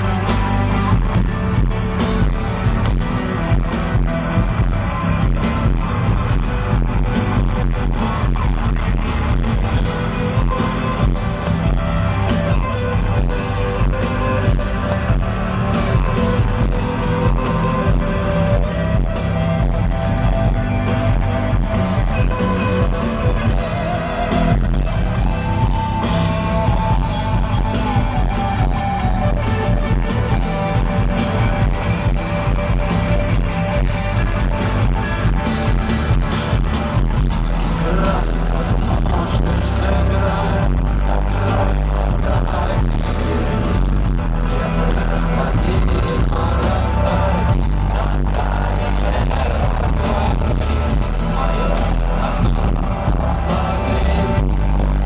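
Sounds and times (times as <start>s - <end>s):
electric guitar lead line: 0.0s - 55.0s
rock band playing live: 0.0s - 55.0s.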